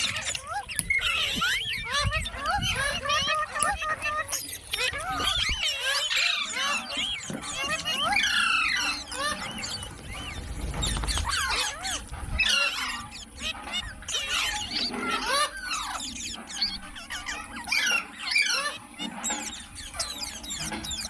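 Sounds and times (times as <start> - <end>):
parrot chirping and whistling: 0.0 - 21.0.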